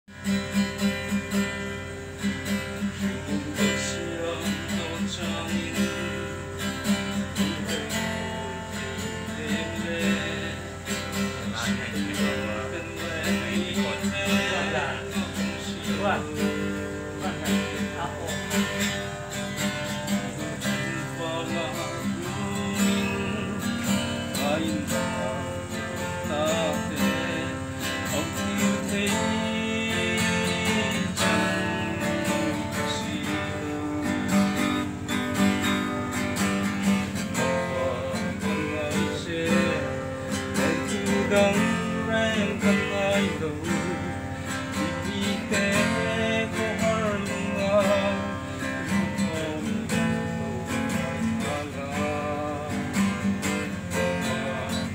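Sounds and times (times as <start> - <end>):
acoustic guitar strumming: 0.0 - 54.9
man singing: 0.1 - 54.9.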